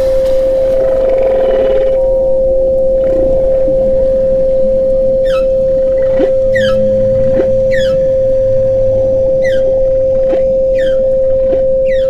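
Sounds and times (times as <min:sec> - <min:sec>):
low hum: 0:00.0 - 0:12.0
steady sine tone: 0:00.0 - 0:12.0
whale calls: 0:00.2 - 0:12.0.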